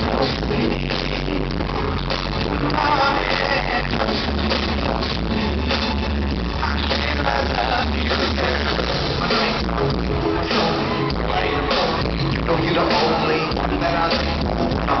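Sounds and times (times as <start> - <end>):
live pop band over pa: 0.0 - 15.0.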